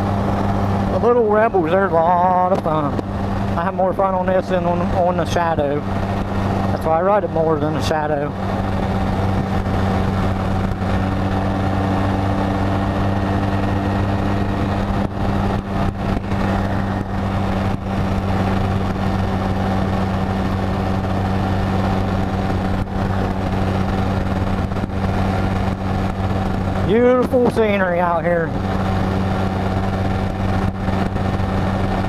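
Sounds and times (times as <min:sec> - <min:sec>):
motorcycle engine cruising: 0:00.0 - 0:32.0
wind noise: 0:00.0 - 0:32.0.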